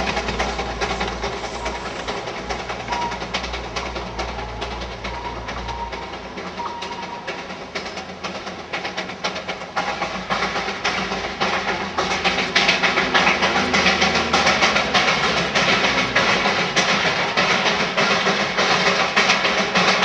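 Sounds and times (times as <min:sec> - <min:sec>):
steam locomotive exhaust beating: 0:00.0 - 0:20.0.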